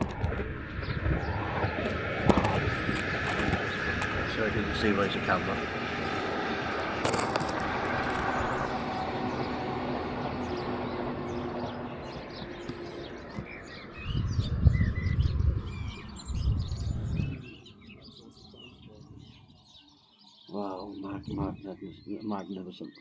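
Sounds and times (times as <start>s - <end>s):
wind gusts buffeting microphone: 0.0s - 19.8s, 20.8s - 22.2s
aircraft engine droning overhead: 0.0s - 22.8s
small birds chirping: 0.0s - 23.0s.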